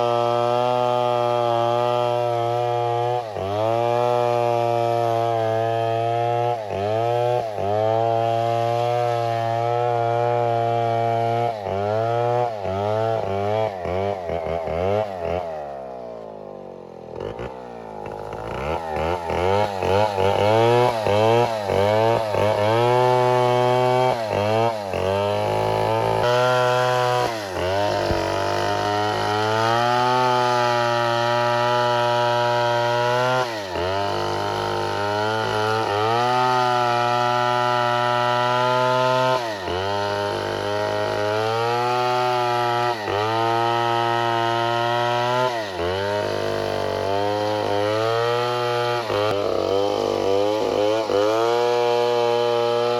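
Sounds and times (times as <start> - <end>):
chainsaw engine revving: 0.0 - 52.9.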